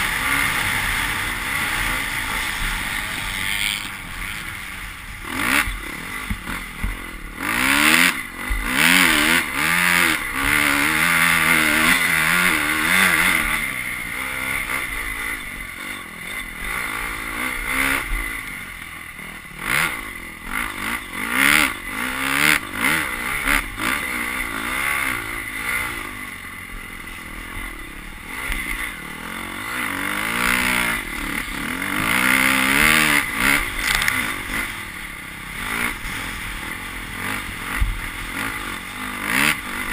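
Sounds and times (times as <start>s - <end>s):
constant rushing noise: 0.0s - 39.9s
motorbike engine revving: 0.0s - 39.9s.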